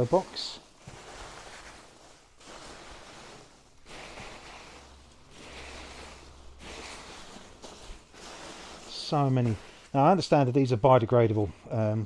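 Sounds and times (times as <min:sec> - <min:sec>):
packing peanuts rustling: 0:00.0 - 0:12.0.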